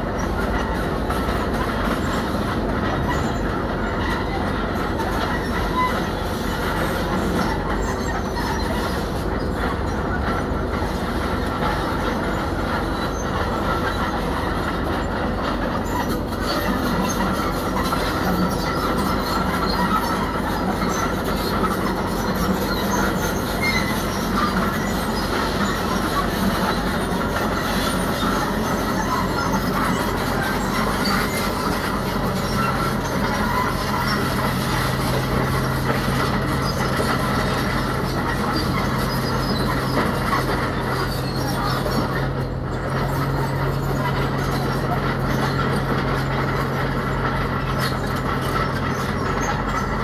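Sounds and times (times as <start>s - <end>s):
diesel engine running: 0.0s - 50.0s
steel tracks clattering on rock: 0.0s - 50.0s.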